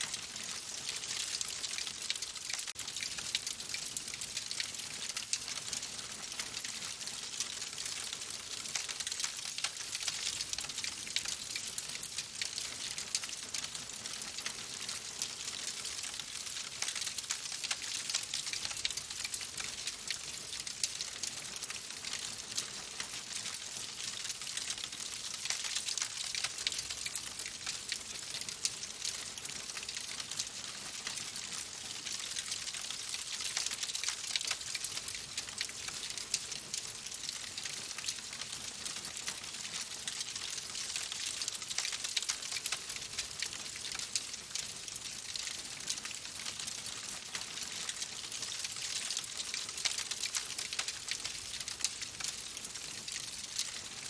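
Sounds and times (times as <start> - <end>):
wood fire crackling: 0.0 - 5.7, 6.3 - 18.2, 18.8 - 23.5, 24.1 - 38.2, 39.0 - 53.8.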